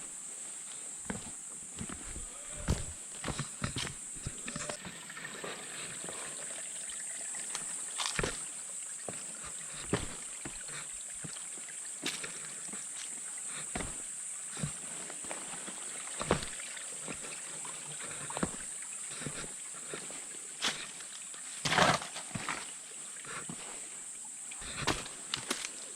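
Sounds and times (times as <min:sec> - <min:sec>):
footsteps on a trail: 0:00.0 - 0:05.0, 0:07.5 - 0:08.5, 0:09.1 - 0:11.4, 0:12.0 - 0:23.8, 0:24.6 - 0:25.9.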